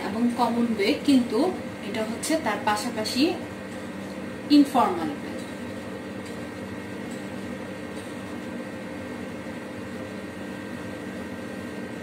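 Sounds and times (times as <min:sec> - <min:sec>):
room noise hum and hiss: 0:00.0 - 0:12.0.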